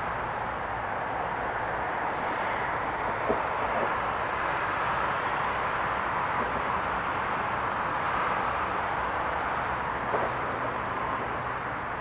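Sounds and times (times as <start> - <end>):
distant traffic noise: 0.0 - 12.0.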